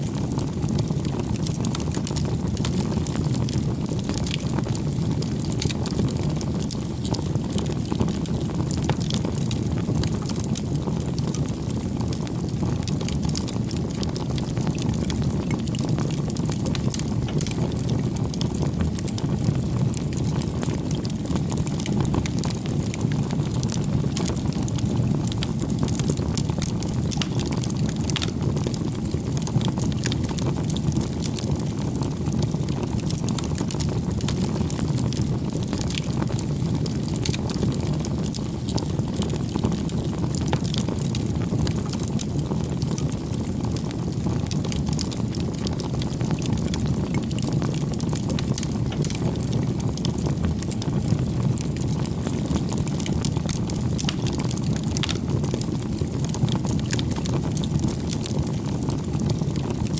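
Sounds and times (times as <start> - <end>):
campfire flames rumbling: 0.0 - 59.9
fire crackles and pops: 0.0 - 59.9.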